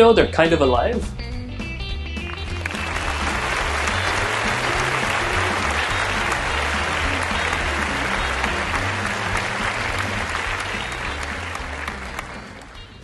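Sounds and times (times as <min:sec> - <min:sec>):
background music with bass: 0:00.0 - 0:13.0
crowd applauding: 0:02.1 - 0:13.0.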